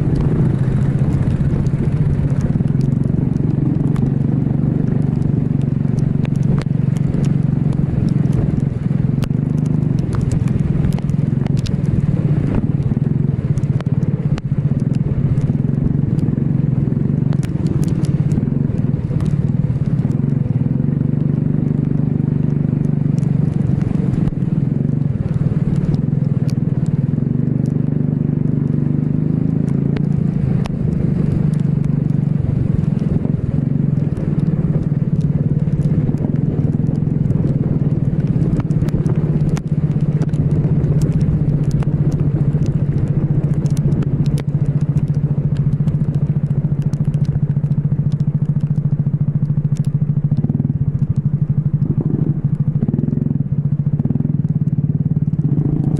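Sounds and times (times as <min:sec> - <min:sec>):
short crackles: 0:00.0 - 0:28.9, 0:29.5 - 0:55.9.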